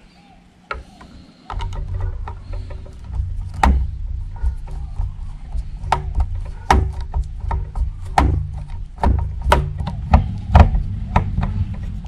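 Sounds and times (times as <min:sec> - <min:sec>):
steady low hum: 0:00.0 - 0:12.0
plastic parts and tools clicking: 0:00.7 - 0:12.0.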